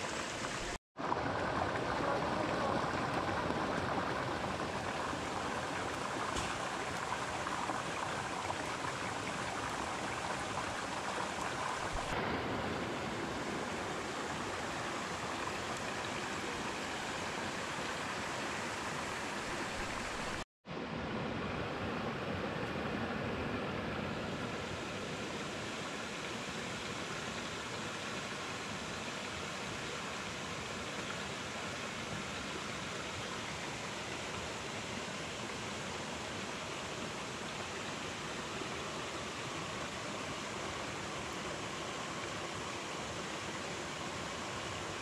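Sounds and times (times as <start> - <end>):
stream running over stones: 0.0 - 20.4, 24.4 - 45.0.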